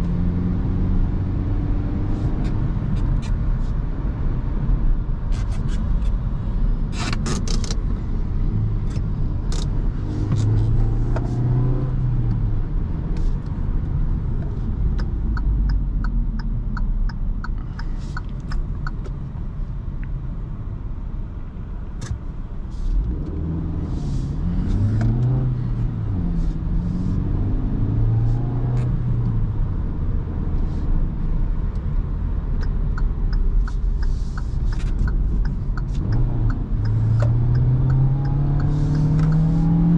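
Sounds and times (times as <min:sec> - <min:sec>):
car engine revving inside cabin: 0:00.0 - 0:05.3, 0:06.8 - 0:17.6, 0:23.0 - 0:39.9
road and tyre rumble: 0:00.0 - 0:39.9.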